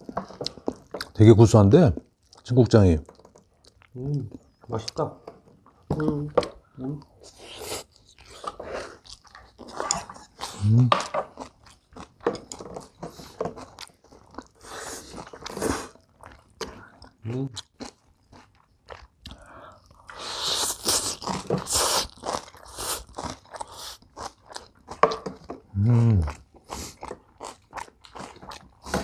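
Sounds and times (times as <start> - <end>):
chewing and crunching food: 0.0 - 29.0.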